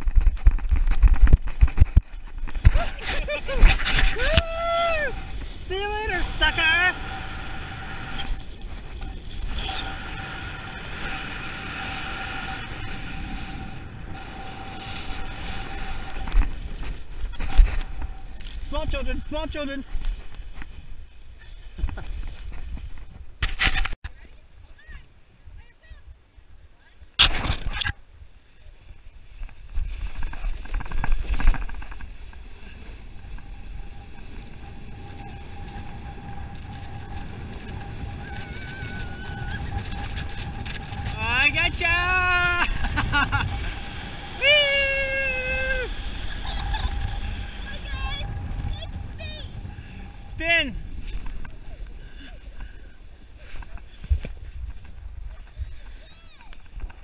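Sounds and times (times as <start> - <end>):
snow tube rushing over snow: 0.0 - 22.9, 28.5 - 57.0
wind rumbling on microphone: 0.0 - 57.0.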